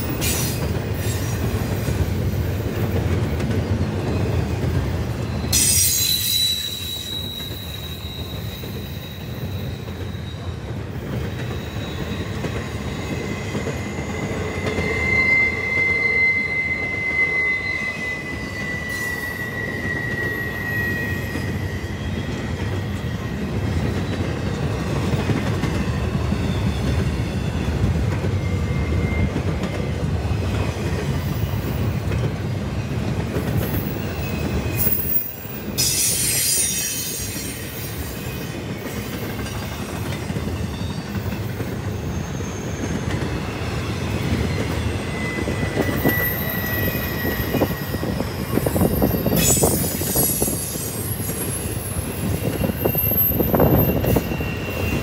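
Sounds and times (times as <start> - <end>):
train wheels rumbling on rail: 0.0 - 55.0
high-pitched wheel squeal: 5.0 - 10.7, 11.3 - 24.2, 25.7 - 30.0, 33.6 - 55.0.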